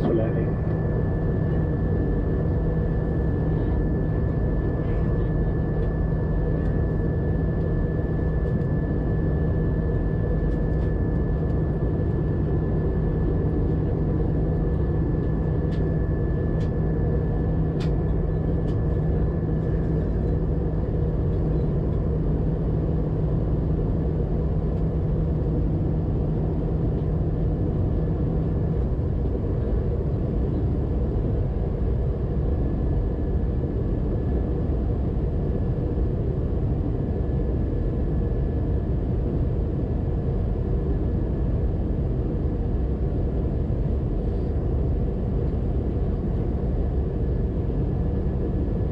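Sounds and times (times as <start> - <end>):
jet engine rumble: 0.0 - 48.9
low hum: 0.0 - 48.9
thin steady whine: 0.0 - 48.9.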